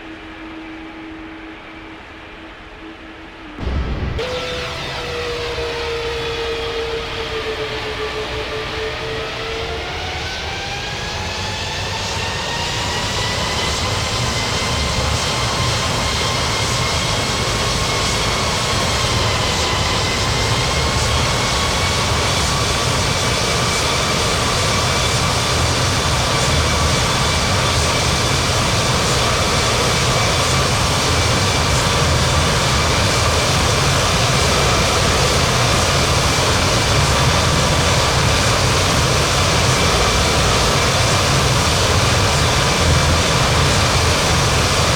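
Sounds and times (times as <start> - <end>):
jet engines spooling up: 0.0 - 44.9.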